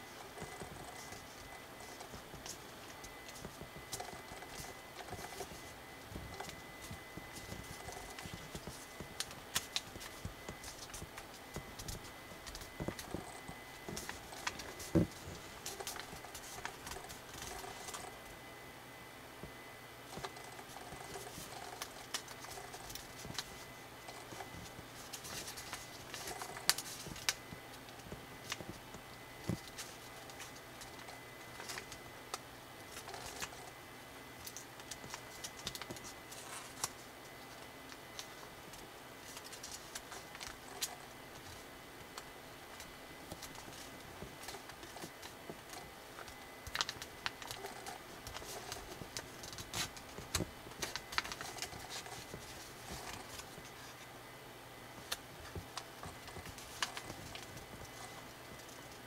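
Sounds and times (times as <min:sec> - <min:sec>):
paper being folded: 0:00.0 - 0:18.3, 0:20.1 - 0:33.8, 0:34.4 - 0:54.1, 0:55.0 - 0:59.0.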